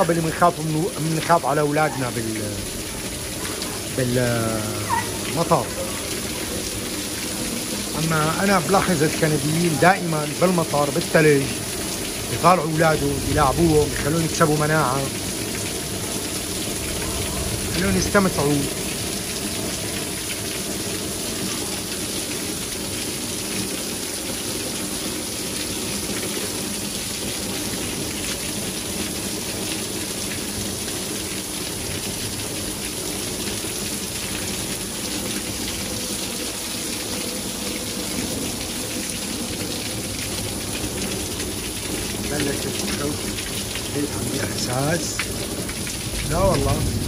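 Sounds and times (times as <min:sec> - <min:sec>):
heavy rain: 0:00.0 - 0:47.0
water pouring off roof: 0:00.0 - 0:47.0.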